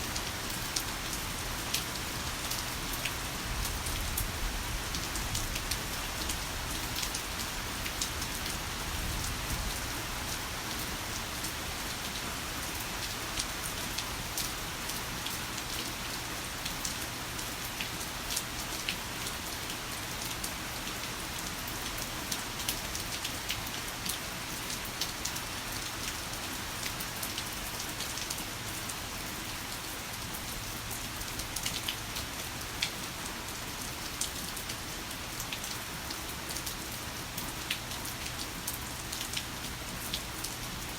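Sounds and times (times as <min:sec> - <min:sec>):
heavy rain with ticking drops: 0:00.0 - 0:40.9.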